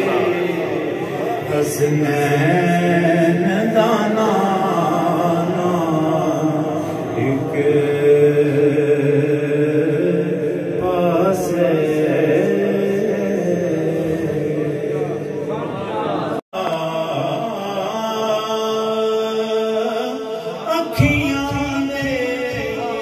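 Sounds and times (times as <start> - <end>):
man chanting into a microphone: 0.0 - 15.6, 16.6 - 23.0.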